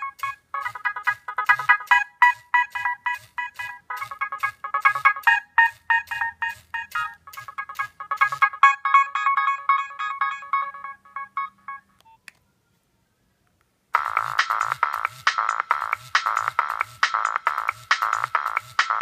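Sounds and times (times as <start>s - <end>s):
electronic ringtone melody: 0.0s - 12.2s, 14.0s - 19.0s.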